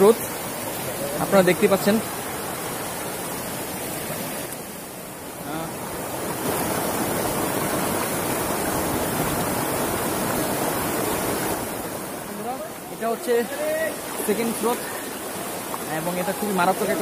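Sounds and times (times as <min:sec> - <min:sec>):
stream rushing water: 0:00.0 - 0:17.0.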